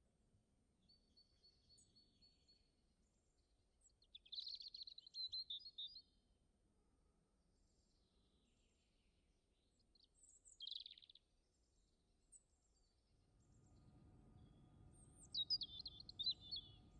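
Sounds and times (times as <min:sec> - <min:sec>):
faint birdsong chirps: 0:00.8 - 0:16.9.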